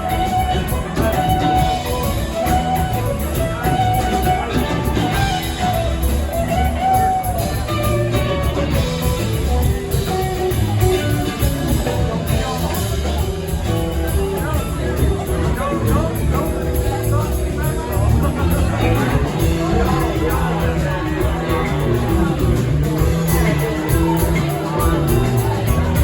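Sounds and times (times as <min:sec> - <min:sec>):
bass guitar: 0:00.0 - 0:26.0
drums: 0:00.0 - 0:26.0
lead guitar line: 0:00.0 - 0:26.0.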